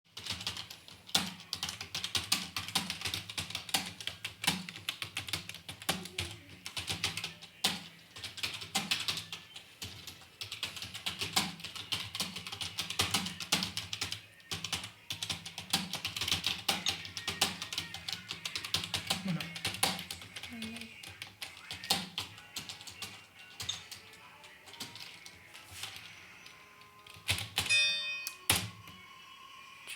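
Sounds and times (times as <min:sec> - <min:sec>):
keyboard typing: 0:00.1 - 0:29.0
background music: 0:00.1 - 0:29.9.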